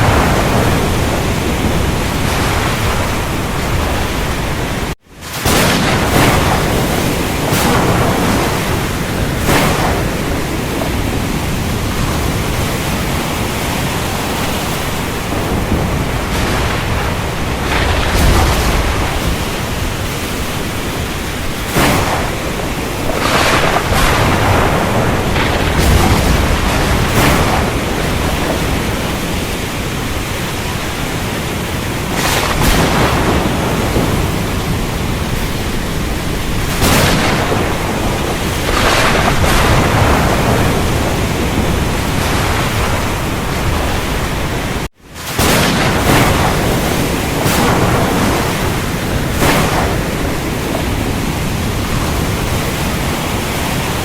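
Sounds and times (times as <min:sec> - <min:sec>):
gusting wind: 0:00.0 - 0:54.0
heavy rain: 0:00.0 - 0:54.0
low rolling thunder: 0:00.0 - 0:54.0.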